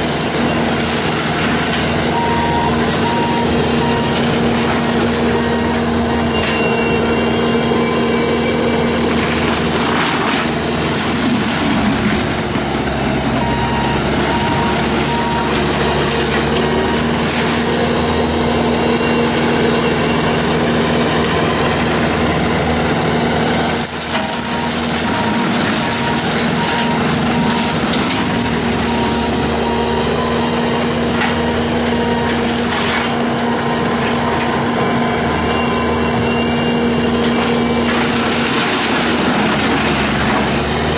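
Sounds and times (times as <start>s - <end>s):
skid steer machine hum: 0.0s - 40.9s.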